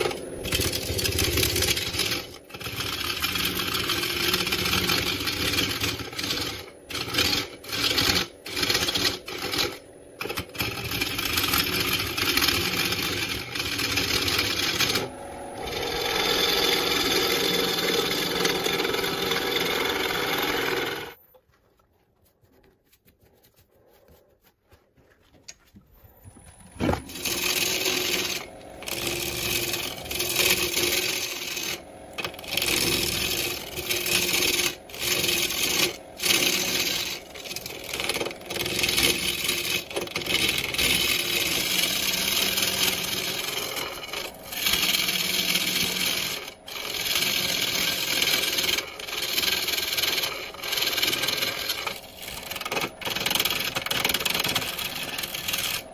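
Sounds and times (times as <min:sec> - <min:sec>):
lathe gouge scraping wood: 0:00.0 - 0:21.2, 0:26.8 - 0:55.9.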